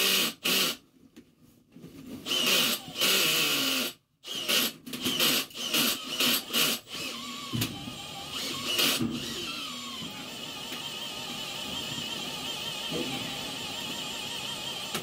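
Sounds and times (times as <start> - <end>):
power tool motor whirring: 2.2 - 15.0.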